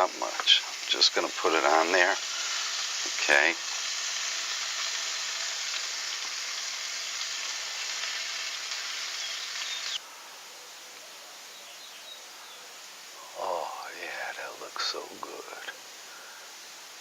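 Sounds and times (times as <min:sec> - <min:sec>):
chicken sizzling on grill: 0:00.0 - 0:17.0.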